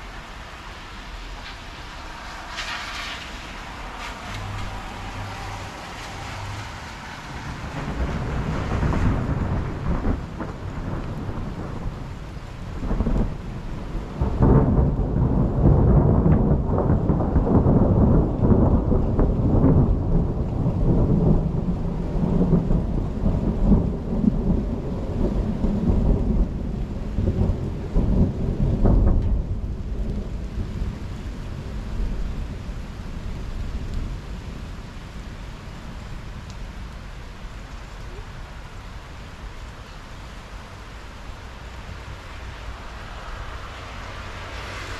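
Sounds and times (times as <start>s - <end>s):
steady rain: 0.0s - 44.9s
thunder rolling: 0.0s - 44.9s.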